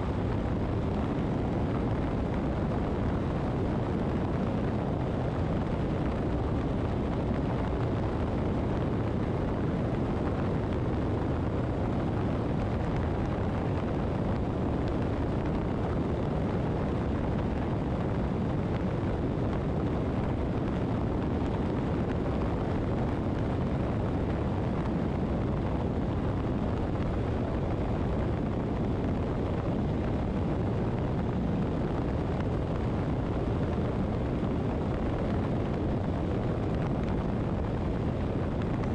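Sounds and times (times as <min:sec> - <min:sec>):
motorcycle road noise: 0:00.0 - 0:38.9
wind buffeting microphone: 0:00.0 - 0:38.9.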